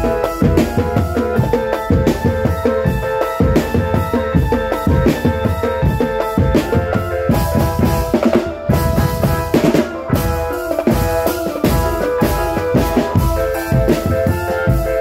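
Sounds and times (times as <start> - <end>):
bass drums: 0.0 - 15.0
snare drums: 0.0 - 15.0
sustained melody of held notes: 0.0 - 15.0.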